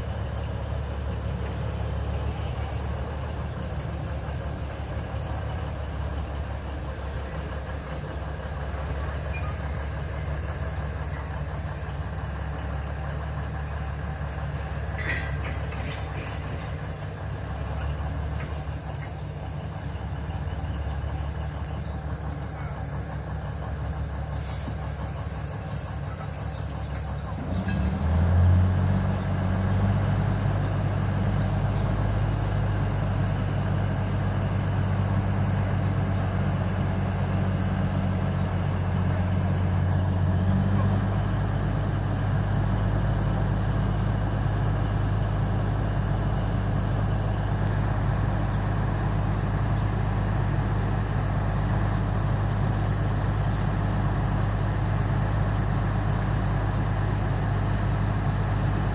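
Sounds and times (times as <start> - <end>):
diesel locomotive engine drone: 0.0 - 58.9.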